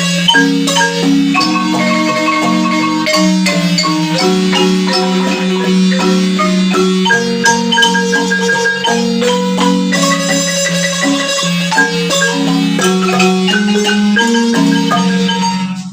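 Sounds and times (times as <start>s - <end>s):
marimba music: 0.0s - 15.9s.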